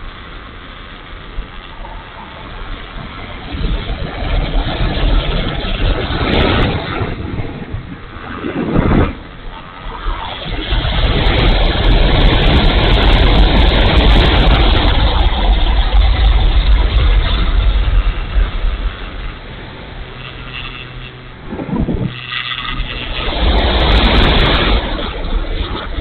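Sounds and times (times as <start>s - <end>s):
electric motor and propeller: 0.0s - 26.0s
wind buffeting microphone: 0.0s - 26.0s.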